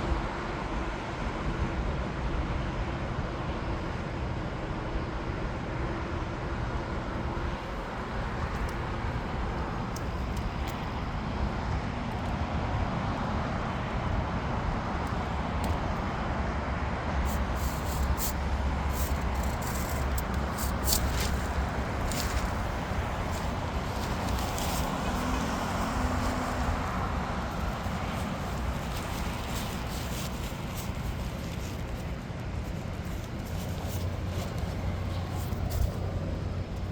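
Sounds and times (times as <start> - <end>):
traffic: 0.0 - 36.9
aircraft engine rumble: 7.1 - 36.9.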